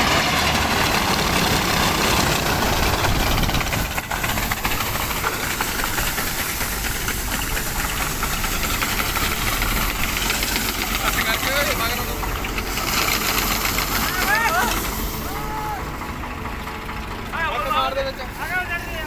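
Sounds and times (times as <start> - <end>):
grain pouring with a hissing rush: 0.0 - 19.0
harvester engine running: 0.0 - 19.0.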